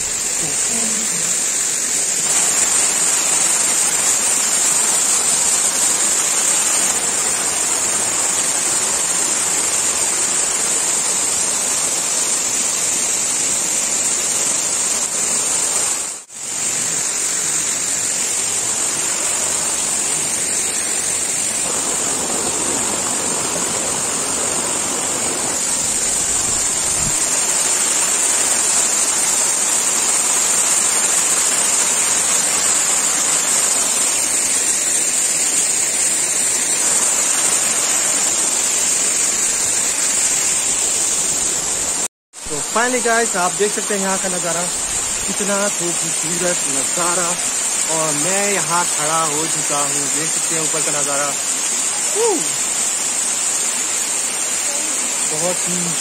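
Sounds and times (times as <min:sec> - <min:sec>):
high-pitched hiss: 0:00.0 - 0:56.0
waterfall roaring: 0:00.0 - 0:56.0.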